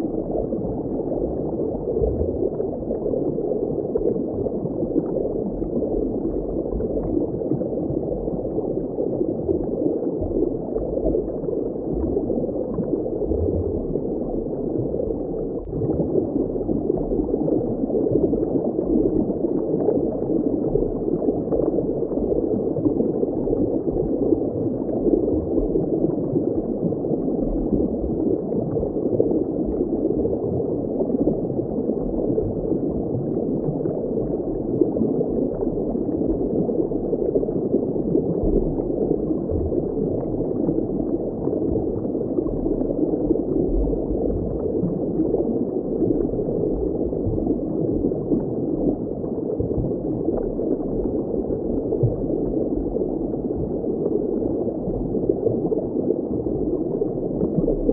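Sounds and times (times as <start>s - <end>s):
muffled underwater moving water: 0.0s - 57.9s.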